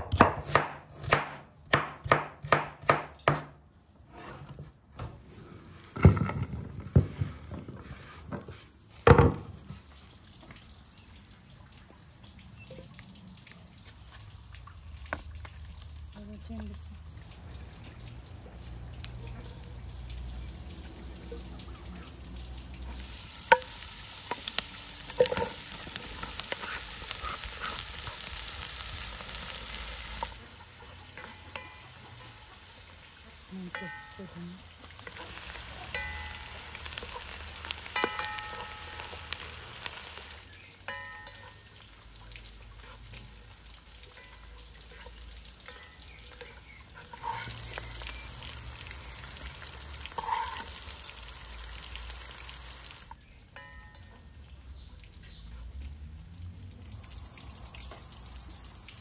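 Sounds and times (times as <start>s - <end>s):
onions sizzling in a pot: 5.2s - 11.2s, 14.8s - 59.0s.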